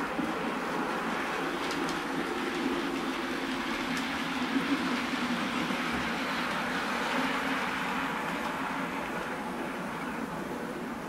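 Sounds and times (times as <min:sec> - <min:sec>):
model train whirring on track: 0:00.0 - 0:11.0.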